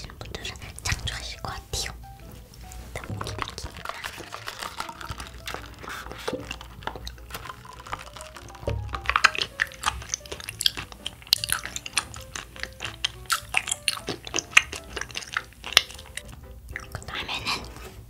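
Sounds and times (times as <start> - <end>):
soft music: 0.0 - 18.0
wet chewing mouth clicks: 2.6 - 17.8.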